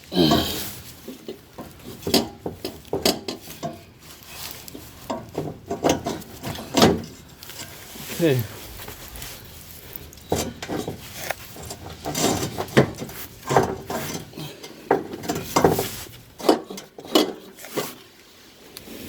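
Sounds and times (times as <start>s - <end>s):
hand tools clanking on metal: 0.1s - 4.0s, 4.7s - 8.3s, 10.0s - 17.9s.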